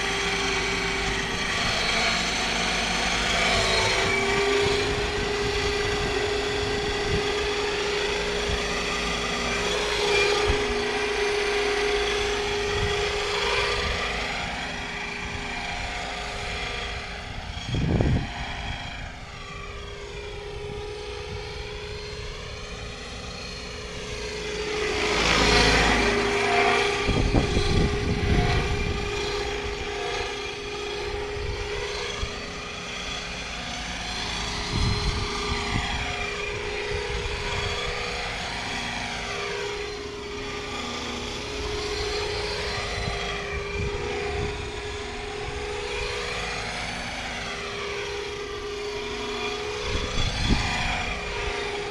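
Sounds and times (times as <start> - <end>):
model helicopter rotor noise: 0.0 - 51.9
turbine-like whine: 0.0 - 51.9.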